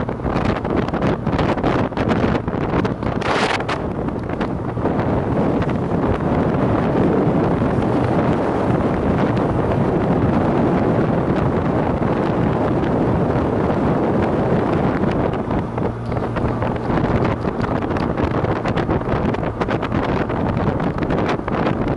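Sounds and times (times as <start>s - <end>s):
engine running: 0.0s - 21.9s
wind buffeting microphone: 0.0s - 21.9s.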